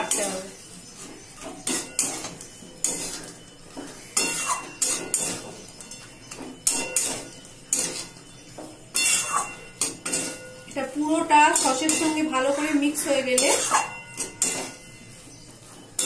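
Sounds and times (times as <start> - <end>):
spatula scraping metal wok: 0.0 - 16.0.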